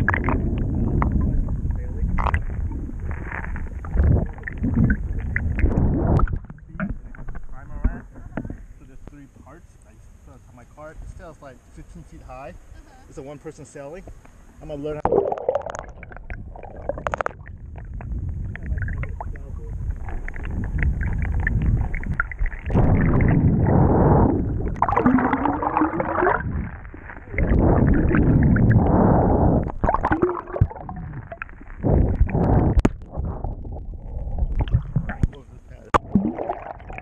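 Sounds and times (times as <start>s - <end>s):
muffled water rushing and gurgling: 0.0s - 9.0s, 14.6s - 37.0s.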